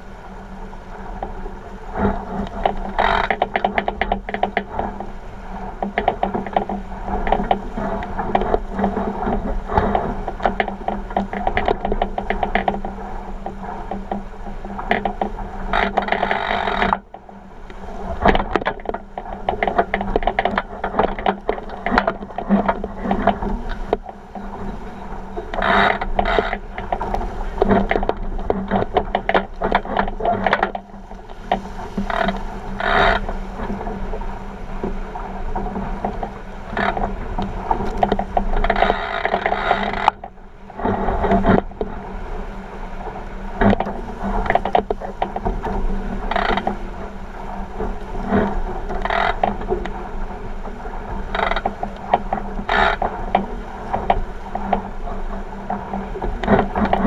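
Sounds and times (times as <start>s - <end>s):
water rushing along a hull: 0.0s - 57.0s
boat fittings knocking and rattling: 2.0s - 42.0s, 43.6s - 50.0s, 50.6s - 57.0s.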